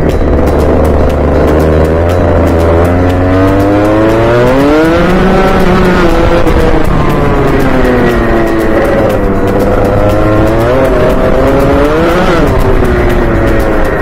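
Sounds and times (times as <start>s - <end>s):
kart engine revving: 0.0s - 14.0s.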